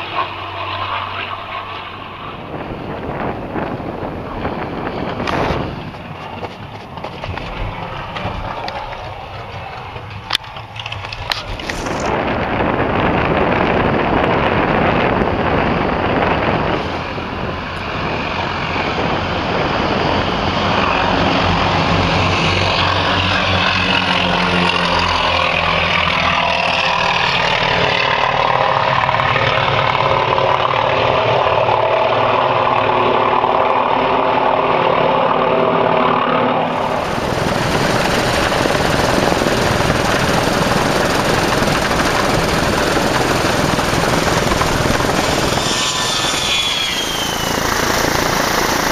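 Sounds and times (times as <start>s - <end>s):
piston aircraft engine running: 0.0s - 48.9s
wind on microphone: 0.0s - 48.9s.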